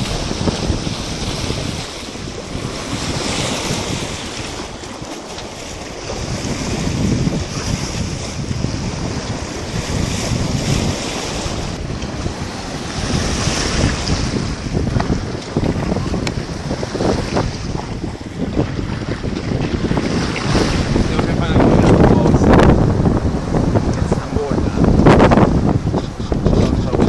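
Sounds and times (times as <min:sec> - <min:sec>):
strong wind buffeting microphone: 0:00.0 - 0:27.0
water rushing and waves: 0:00.0 - 0:27.0.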